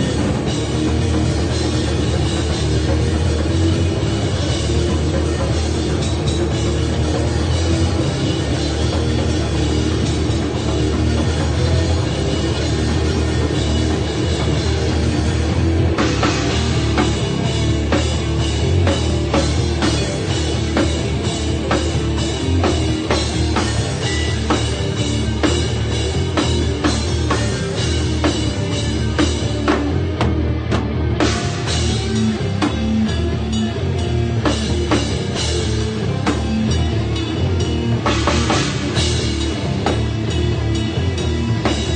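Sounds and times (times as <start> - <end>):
driving drum beat: 0.0 - 41.9
rock band playing live: 0.0 - 41.9.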